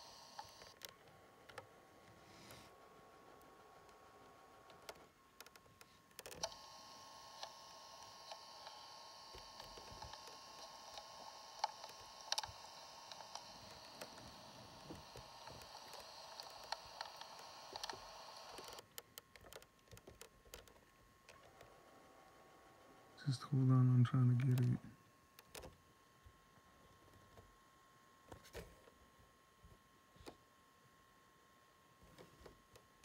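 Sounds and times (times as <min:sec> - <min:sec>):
faint hiss with thin hum: 0:00.0 - 0:33.0.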